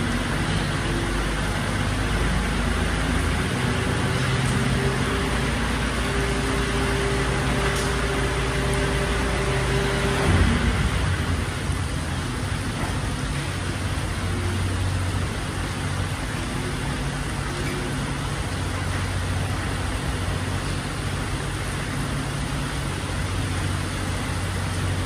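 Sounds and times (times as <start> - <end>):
garbage truck diesel engine: 0.0 - 25.0
rain hissing: 0.0 - 25.0.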